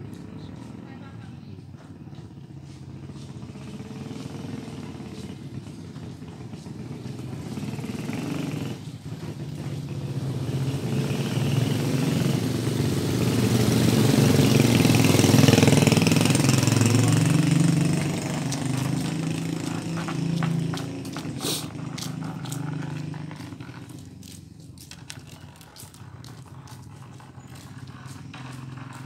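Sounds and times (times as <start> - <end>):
vehicle engine passing: 0.0 - 29.0.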